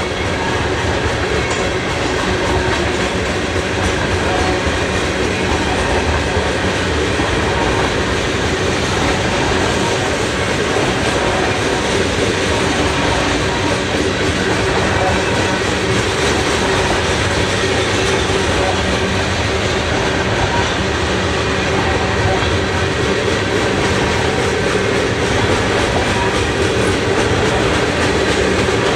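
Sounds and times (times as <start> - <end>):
steel wheels on rails: 0.0 - 28.9.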